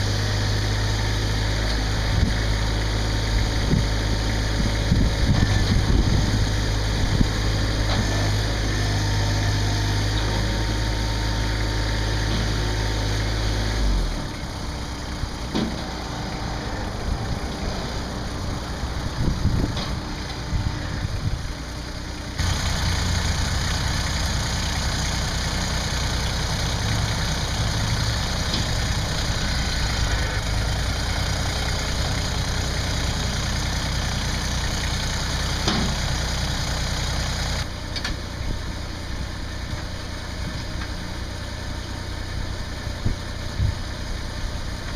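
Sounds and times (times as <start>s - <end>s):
tractor diesel engine idling: 0.0s - 44.9s.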